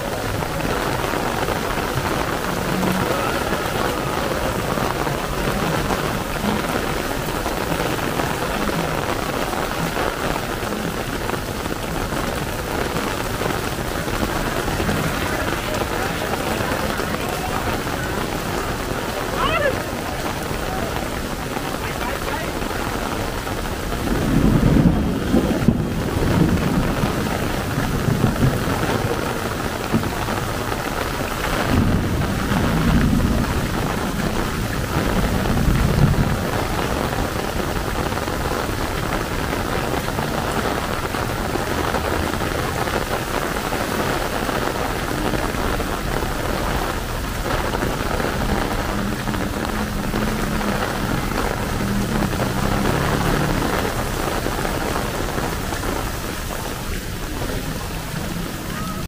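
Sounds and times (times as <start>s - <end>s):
heavy rain pouring: 0.0s - 59.0s
low rumbles: 0.0s - 59.0s.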